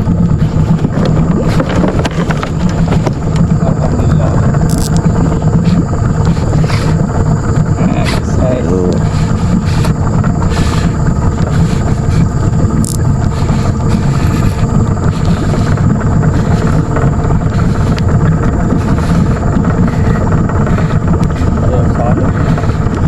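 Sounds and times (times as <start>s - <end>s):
engine running low rumble: 0.0s - 23.0s.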